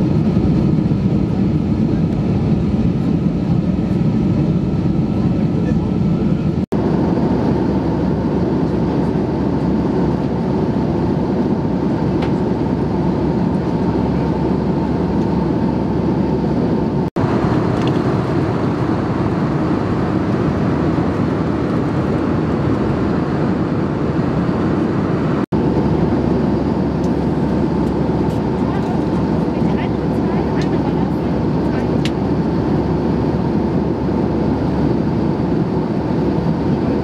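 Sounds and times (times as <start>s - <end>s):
airplane cabin roar: 0.0s - 37.0s.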